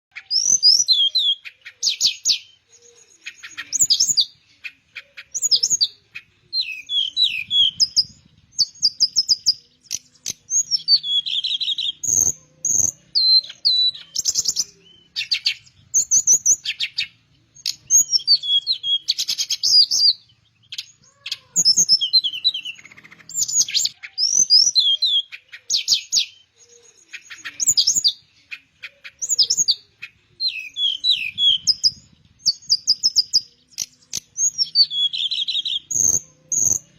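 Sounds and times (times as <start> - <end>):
bird warbling and trilling: 0.1 - 36.9.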